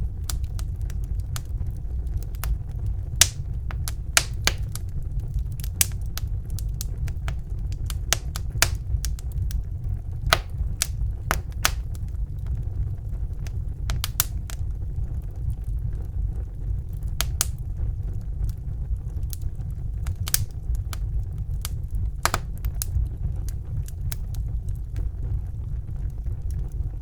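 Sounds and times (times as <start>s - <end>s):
low rumble: 0.0s - 27.0s
wood fire crackling: 0.0s - 27.0s.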